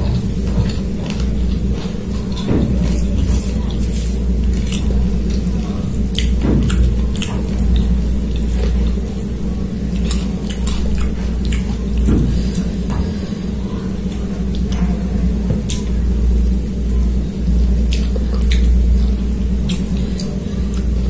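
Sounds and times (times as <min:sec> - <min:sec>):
chewing: 0:00.0 - 0:21.0
steady low hum: 0:00.0 - 0:21.0.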